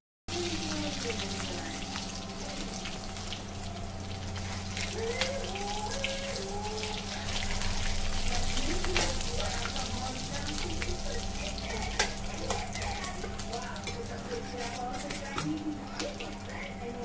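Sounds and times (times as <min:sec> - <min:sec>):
fish roe sizzling in oil: 0:00.3 - 0:17.0.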